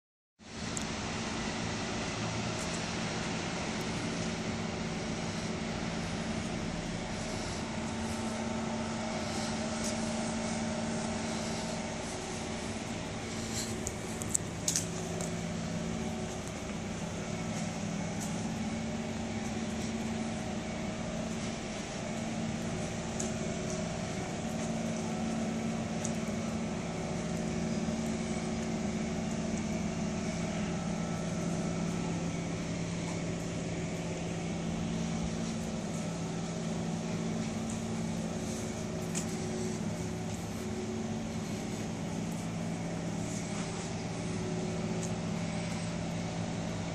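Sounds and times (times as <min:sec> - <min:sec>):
vehicle engine humming: 0:00.5 - 0:46.9.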